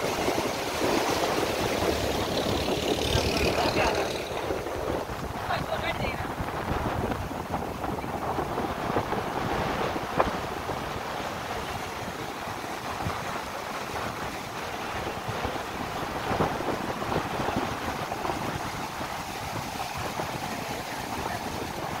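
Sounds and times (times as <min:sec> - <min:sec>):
waves breaking on sand: 0:00.0 - 0:22.0
wind buffeting microphone: 0:00.0 - 0:22.0.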